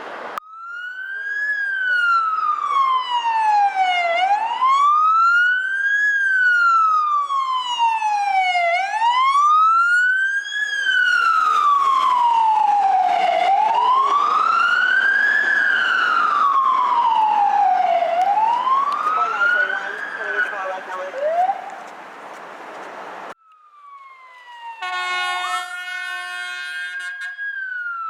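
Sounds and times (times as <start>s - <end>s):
emergency vehicle siren wailing: 0.4s - 21.9s, 23.3s - 28.0s.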